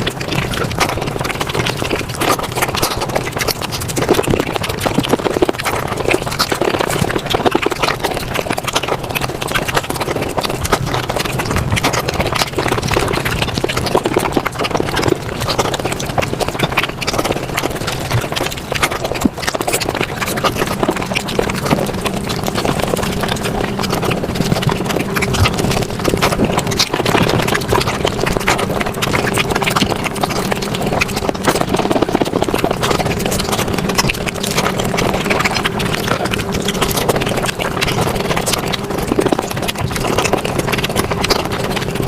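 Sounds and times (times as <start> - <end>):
low hum: 0.0 - 42.0
sped-up chewing clicks and smacks: 0.0 - 42.0.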